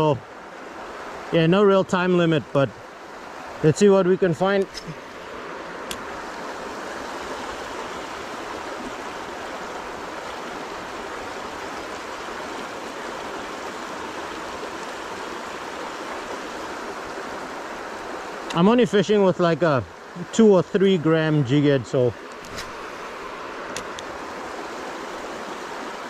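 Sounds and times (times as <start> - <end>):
river water rushing over rapids: 0.0 - 26.0.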